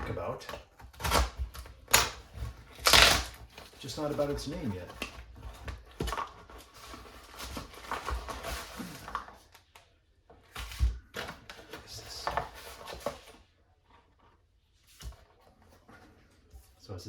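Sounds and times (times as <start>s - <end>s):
packaging rustling and crinkling: 0.1s - 14.3s.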